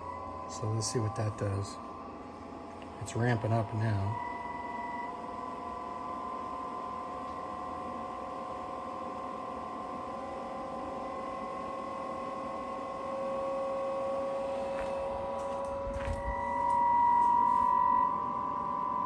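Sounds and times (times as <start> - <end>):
heater blower fan whine: 0.0 - 19.0.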